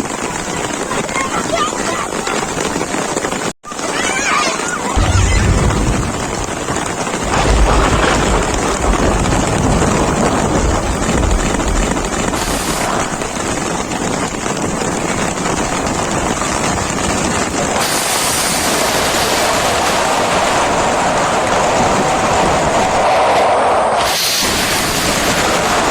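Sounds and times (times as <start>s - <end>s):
heavy rain: 0.0s - 25.9s
wind buffeting microphone: 4.9s - 25.9s.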